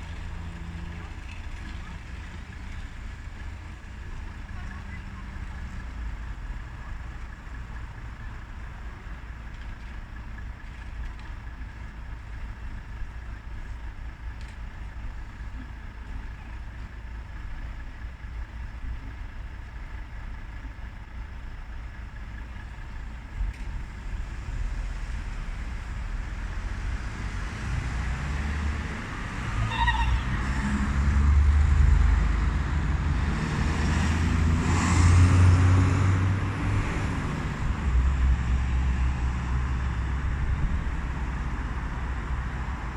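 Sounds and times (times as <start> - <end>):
heavy vehicle engine rumbling: 0.0 - 42.9.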